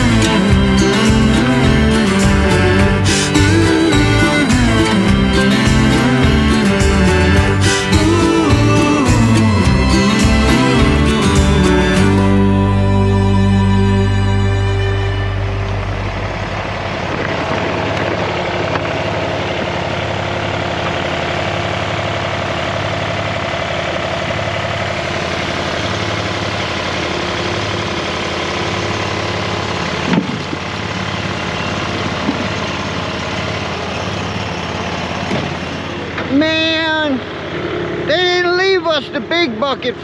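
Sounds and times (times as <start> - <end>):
loader engine running: 0.0 - 40.0.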